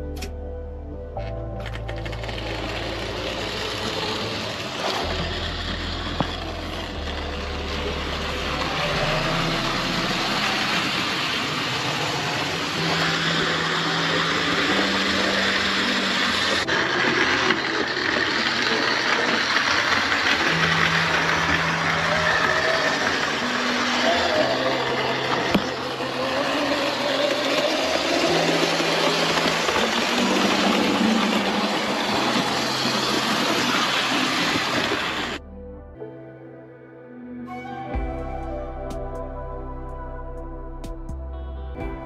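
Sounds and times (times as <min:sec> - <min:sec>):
model train running on track: 0:01.6 - 0:35.4.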